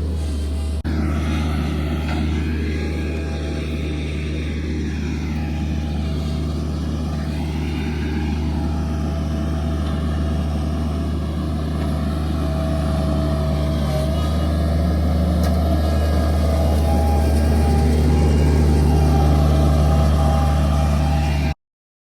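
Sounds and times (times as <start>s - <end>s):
diesel engine running steadily: 0.0s - 21.6s.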